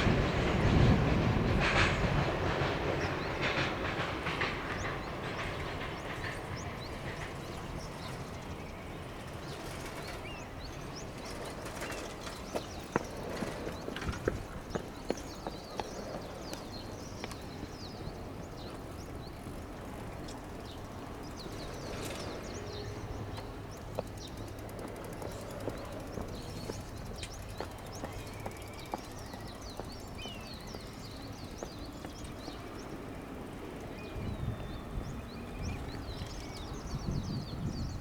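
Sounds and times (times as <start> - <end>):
small birds chirping: 1.1 - 38.0.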